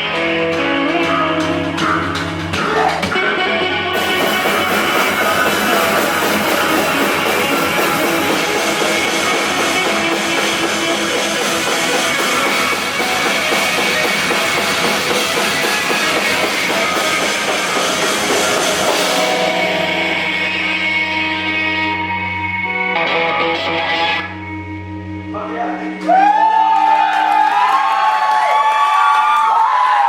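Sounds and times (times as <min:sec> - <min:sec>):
punk band playing live: 0:00.0 - 0:26.4.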